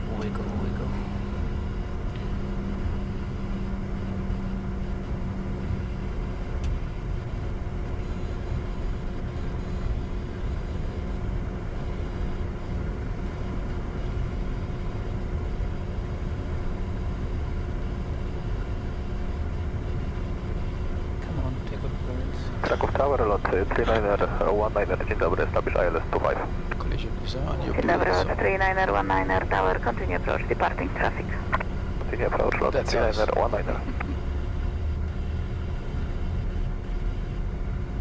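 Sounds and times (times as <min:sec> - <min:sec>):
jet engines idling in cockpit: 0:00.0 - 0:38.0
low hum: 0:00.0 - 0:38.0.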